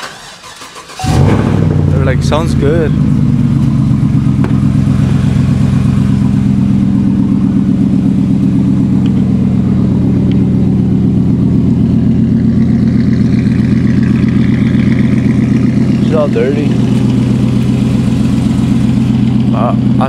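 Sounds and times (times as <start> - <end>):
pickup truck engine idling: 0.2 - 20.0.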